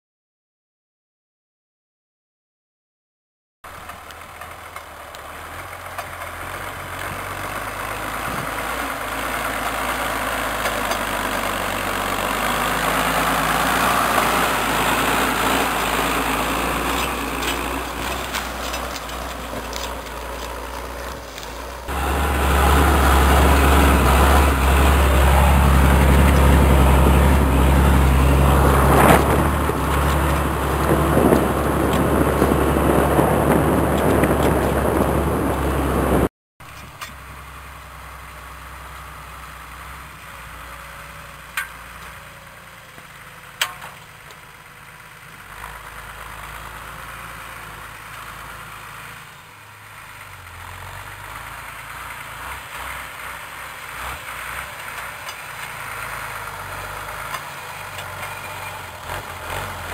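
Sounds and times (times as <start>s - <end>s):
tractor engine under load: 3.7s - 59.9s.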